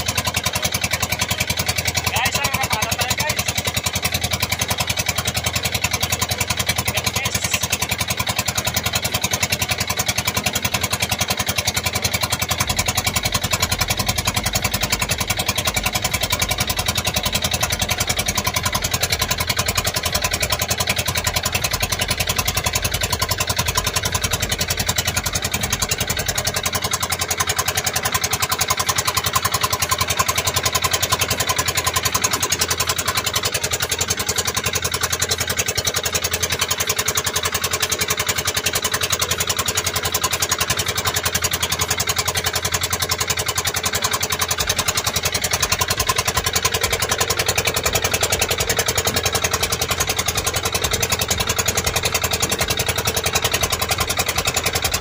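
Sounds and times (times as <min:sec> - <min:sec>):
small boat engine running: 0:00.0 - 0:55.0.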